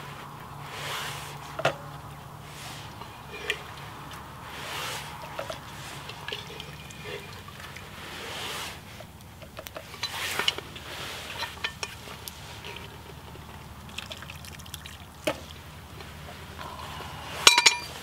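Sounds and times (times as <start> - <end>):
utensil stirring thick stew: 0.2 - 17.4.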